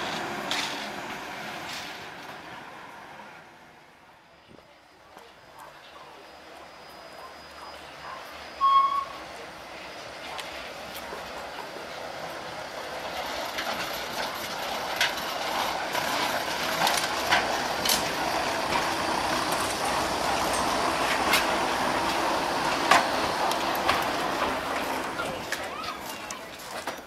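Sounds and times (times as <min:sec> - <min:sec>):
railcar running noise: 0:00.0 - 0:27.0.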